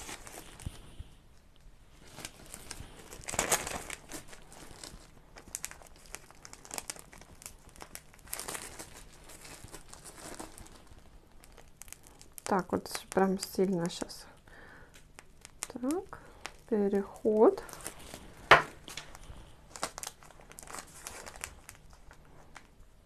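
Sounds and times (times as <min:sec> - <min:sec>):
wrapping material crinkling: 0:00.0 - 0:23.0.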